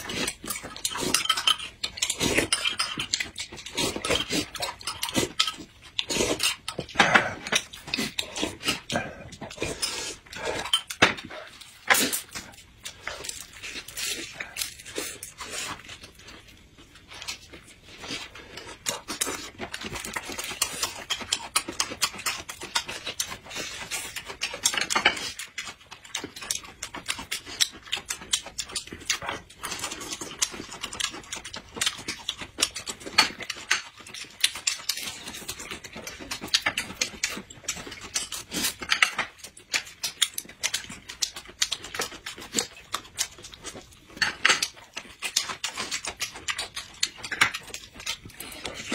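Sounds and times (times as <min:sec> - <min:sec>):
chewing and crackling food: 0:00.0 - 0:48.9.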